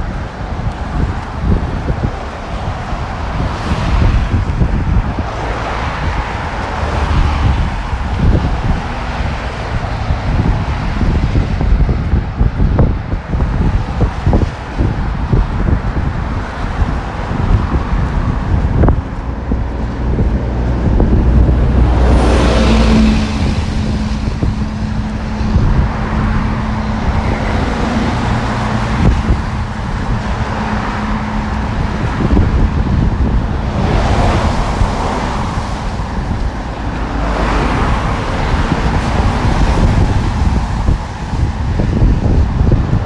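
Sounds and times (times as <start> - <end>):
traffic on a wet road: 0.0 - 43.0
wind rumbling on microphone: 0.0 - 43.0.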